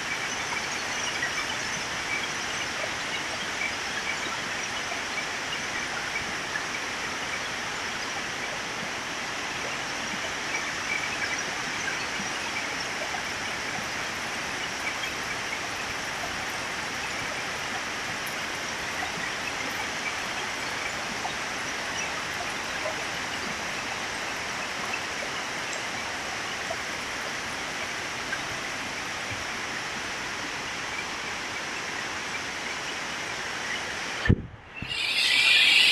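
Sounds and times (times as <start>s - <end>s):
heavy rain pouring: 5.4s - 35.9s.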